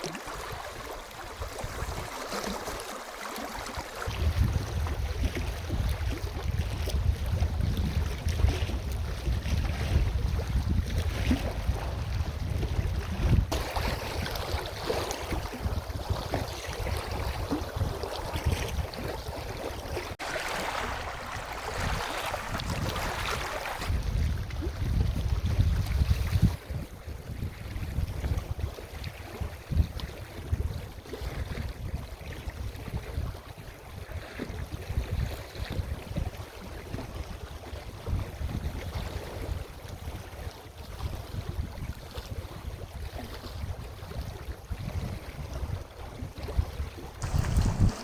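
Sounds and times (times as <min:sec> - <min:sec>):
wind buffeting microphone: 0:03.9 - 0:48.0.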